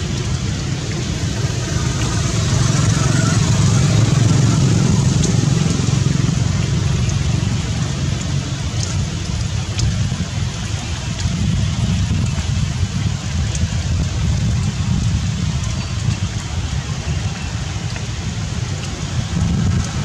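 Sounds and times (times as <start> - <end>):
steady rain falling: 0.0 - 20.0
wind rumble on microphone: 0.0 - 20.0.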